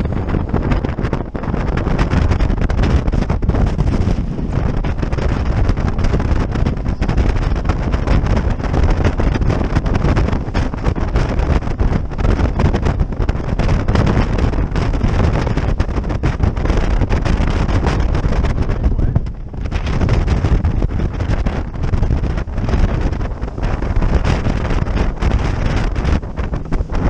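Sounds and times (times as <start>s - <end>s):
boat running noise: 0.0s - 27.0s
wind buffeting microphone: 0.0s - 27.0s.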